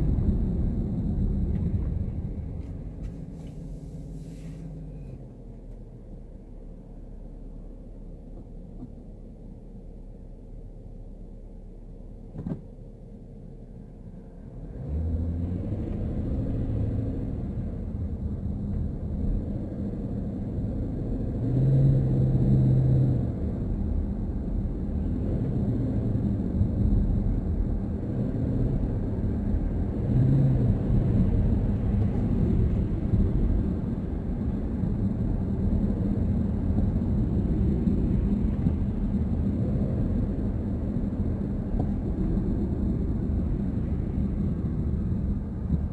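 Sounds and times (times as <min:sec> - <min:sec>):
car cabin road rumble: 0:00.0 - 0:45.9.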